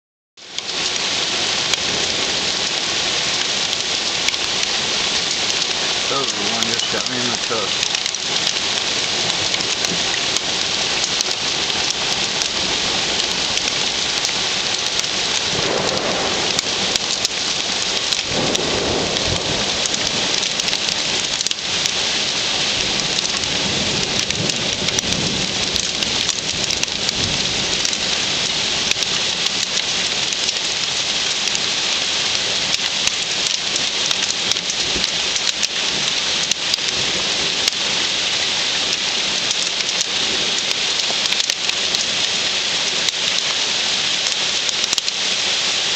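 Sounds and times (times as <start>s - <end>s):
hail pelting hard surfaces: 0.5s - 45.9s.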